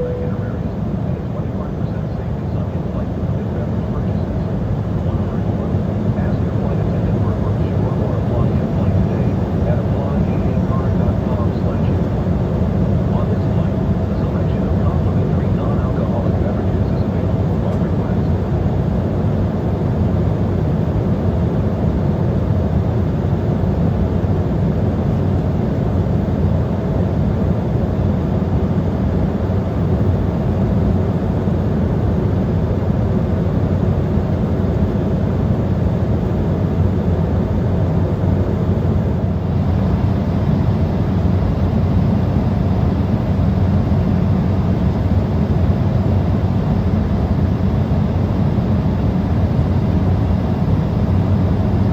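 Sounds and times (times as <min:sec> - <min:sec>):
jet cabin engine rumble: 0:00.0 - 0:51.9.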